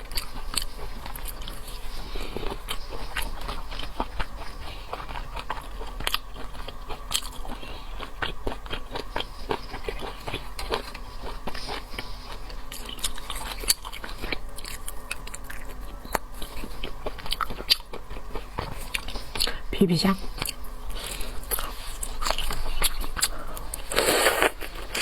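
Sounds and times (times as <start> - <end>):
person chewing seafood: 0.0 - 25.0.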